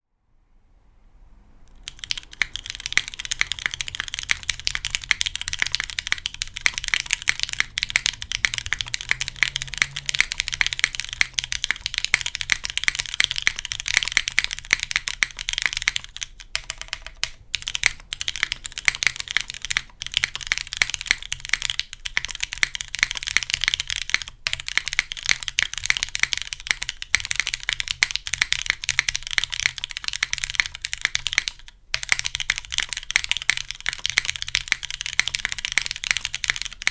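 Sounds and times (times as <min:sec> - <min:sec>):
fast typing on mechanical keyboard: 0:01.7 - 0:36.9.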